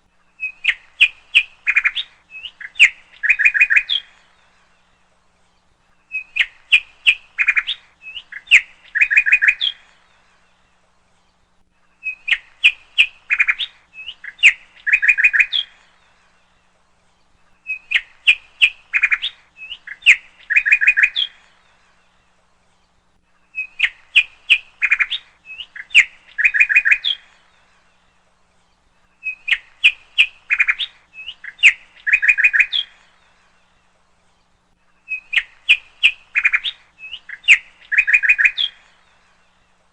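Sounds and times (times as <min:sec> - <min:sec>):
bird chirping and trilling: 0:00.3 - 0:05.0, 0:06.0 - 0:10.8, 0:11.4 - 0:39.8.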